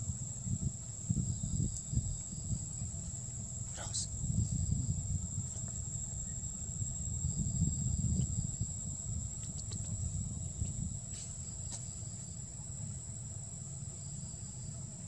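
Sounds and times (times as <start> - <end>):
high-pitched insect drone: 0.0 - 15.0
low rumble: 0.0 - 15.0.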